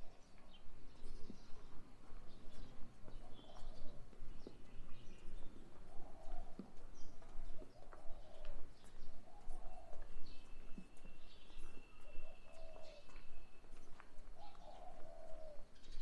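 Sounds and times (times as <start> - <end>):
small birds chirping: 0.0 - 16.0
doves cooing: 1.6 - 11.0, 11.6 - 13.5, 14.2 - 16.0.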